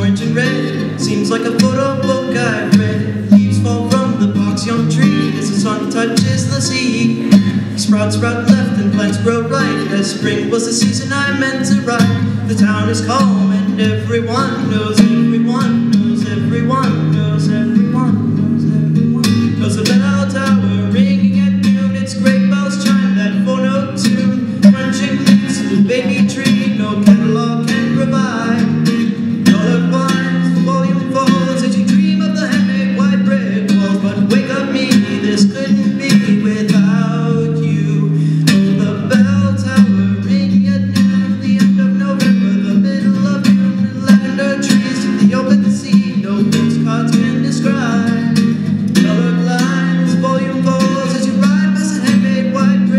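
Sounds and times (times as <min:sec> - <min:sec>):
live guitar music: 0:00.0 - 0:52.9.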